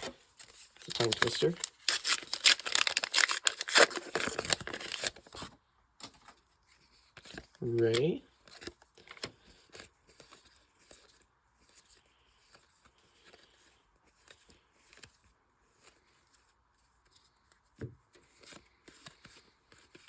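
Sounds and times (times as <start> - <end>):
trading cards rustling and tapping: 0.0 - 5.4, 6.0 - 15.2, 17.7 - 20.0.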